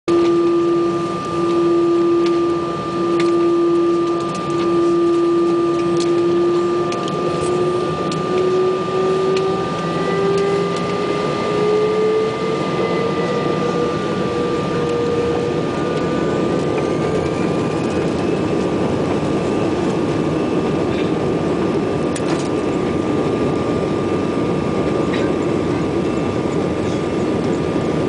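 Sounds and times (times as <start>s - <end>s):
jet engine whine: 0.1s - 28.0s.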